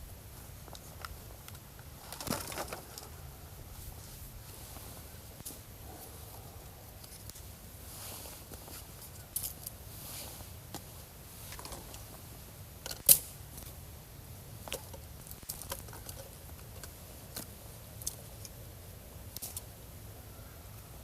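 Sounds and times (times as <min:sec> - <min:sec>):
low steady background noise: 0:00.0 - 0:21.0.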